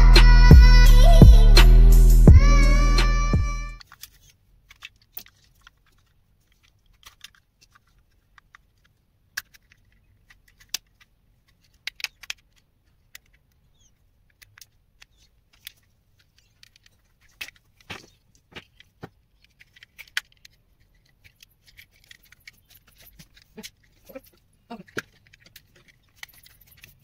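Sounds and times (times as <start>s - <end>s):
sharp plastic snaps: 3.8s - 27.0s.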